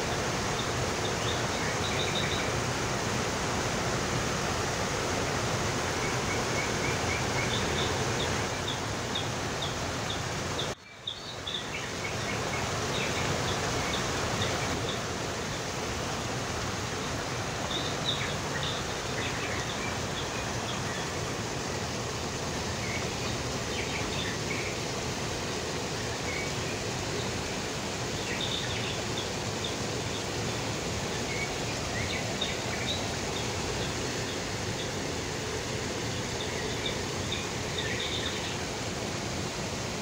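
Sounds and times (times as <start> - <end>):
fountain water splashing: 0.0 - 10.8, 11.4 - 40.0
small birds chirping: 0.1 - 2.8, 5.7 - 16.2, 16.8 - 38.7.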